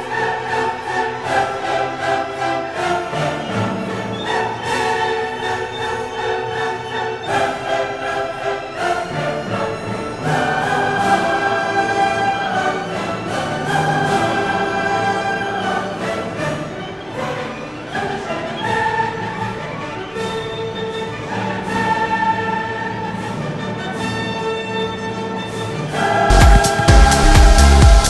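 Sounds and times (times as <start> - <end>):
orchestral string chords: 0.0 - 28.0.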